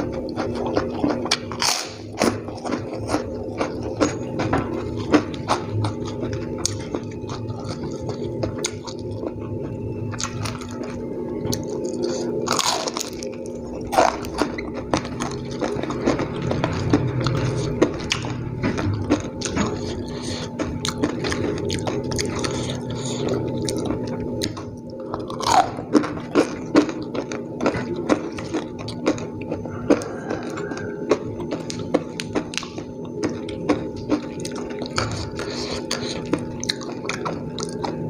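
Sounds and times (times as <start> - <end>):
person chewing with wet smacks: 0.0 - 38.0
steady hum: 0.0 - 38.0.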